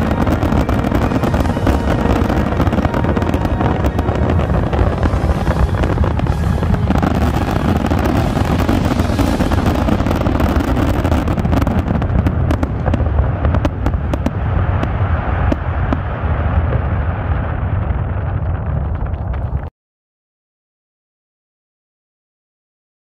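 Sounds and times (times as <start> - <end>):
sharp firework cracks: 0.0 - 19.6
fireworks bursts rumbling: 0.0 - 19.7.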